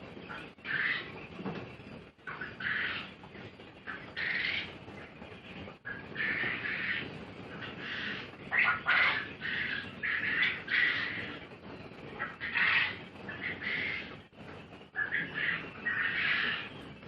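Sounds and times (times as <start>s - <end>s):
quail chirping calls: 0.0s - 17.0s.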